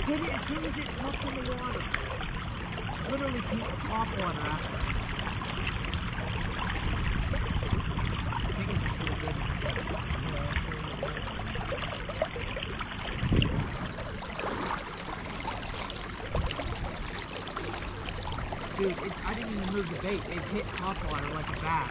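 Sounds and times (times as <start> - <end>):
river water flowing: 0.0 - 21.9.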